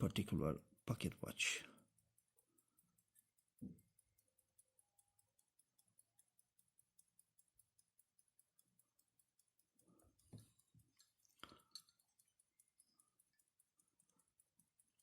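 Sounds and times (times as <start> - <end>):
pocket watch ticking: 0.0 - 15.0.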